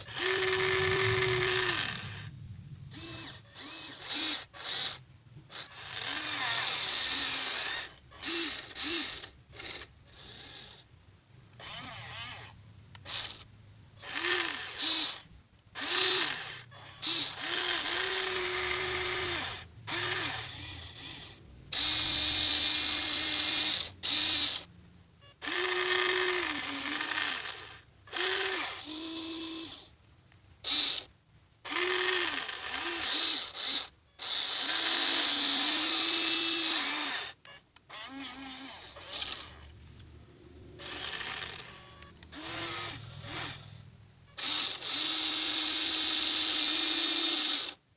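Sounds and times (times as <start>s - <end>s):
electric gear motors whining: 0.0s - 10.9s, 11.5s - 30.0s, 30.6s - 47.8s.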